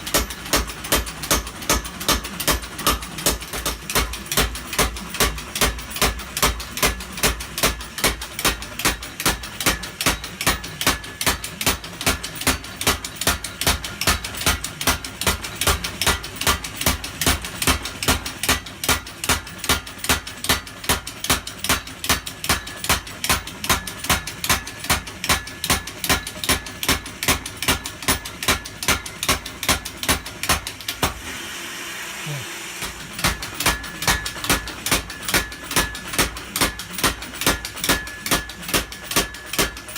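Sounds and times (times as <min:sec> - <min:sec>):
power hammer striking: 0:00.0 - 0:31.4, 0:32.8 - 0:39.9.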